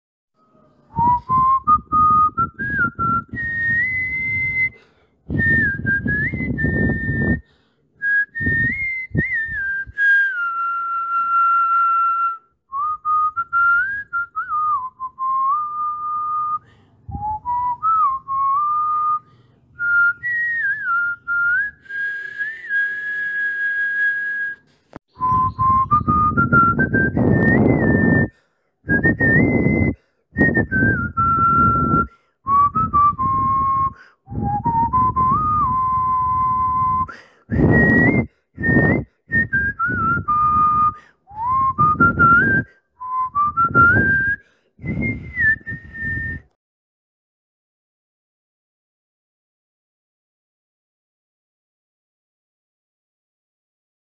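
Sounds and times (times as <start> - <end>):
person whistling a tune: 0.5 - 46.6.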